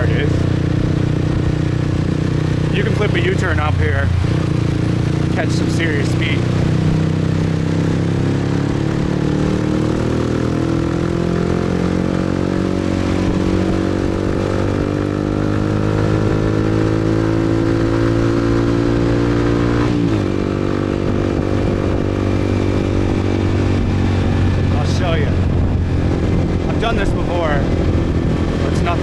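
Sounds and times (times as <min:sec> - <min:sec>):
motorbike engine accelerating: 0:00.0 - 0:29.0.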